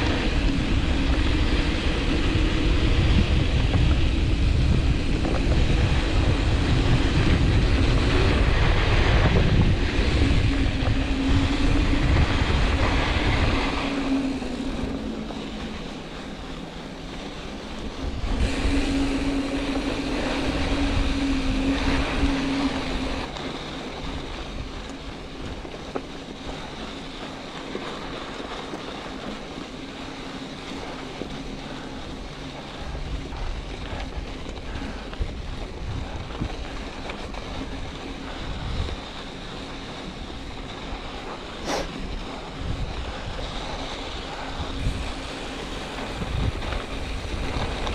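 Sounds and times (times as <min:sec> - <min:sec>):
bike tyres rolling on gravel: 0:00.0 - 0:47.9
steady hum: 0:00.0 - 0:47.9
wind buffeting microphone: 0:00.0 - 0:47.9.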